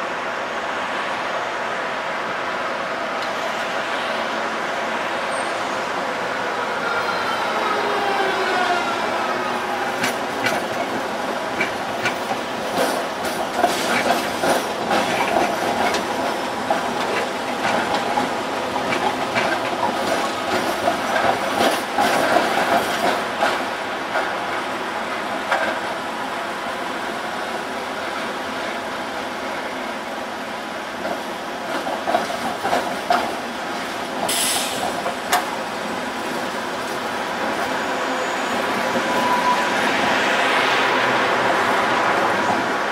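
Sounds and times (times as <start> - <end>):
tram rumble: 0.0 - 42.9
tram wheels clacking over rail joints: 8.0 - 42.9.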